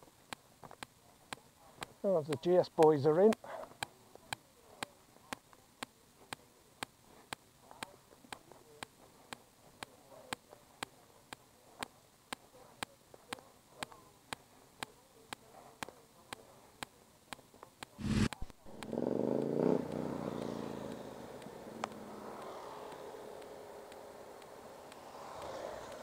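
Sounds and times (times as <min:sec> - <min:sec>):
faint distant voices: 0:00.0 - 0:26.0
regular ticking clicks: 0:00.0 - 0:26.0.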